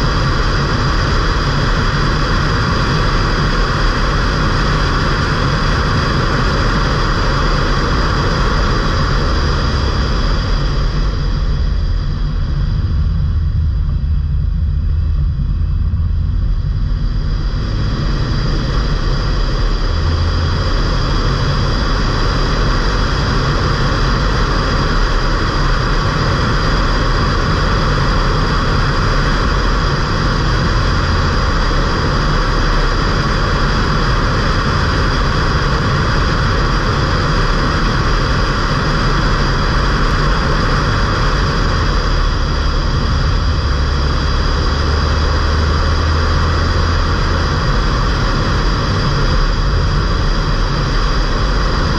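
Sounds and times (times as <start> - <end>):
diesel car engine droning: 0.0 - 51.9
road and wind noise: 0.0 - 51.9.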